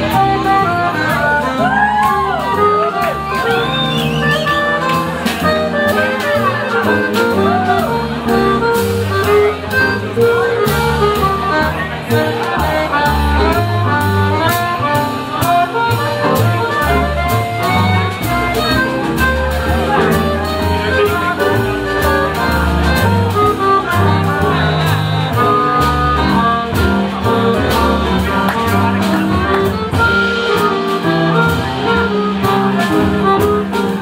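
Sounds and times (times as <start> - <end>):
accordion: 0.0 - 34.0
double bass: 0.0 - 34.0
jazz band playing: 0.0 - 34.0.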